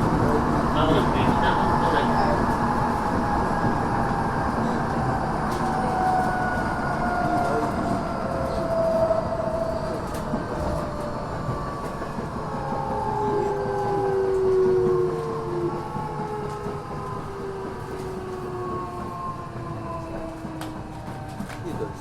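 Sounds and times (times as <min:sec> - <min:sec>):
train wheel and track rumble: 0:00.0 - 0:22.0.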